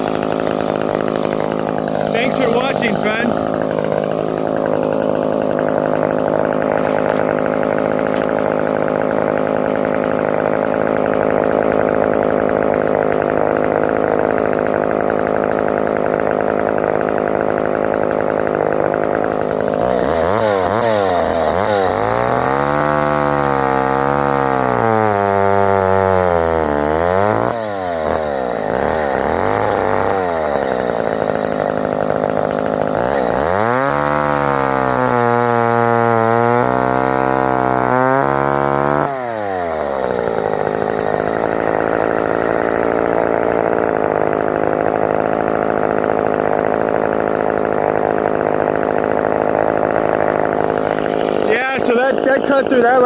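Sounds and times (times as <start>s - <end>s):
chainsaw cutting wood: 0.0s - 53.0s
chainsaw revving: 0.0s - 53.0s.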